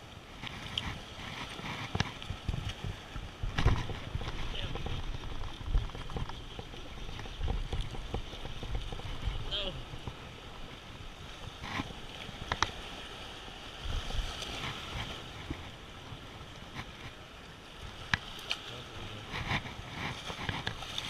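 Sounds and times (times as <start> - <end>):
surf washing against rocks: 0.0 - 21.0
wind: 0.0 - 21.0.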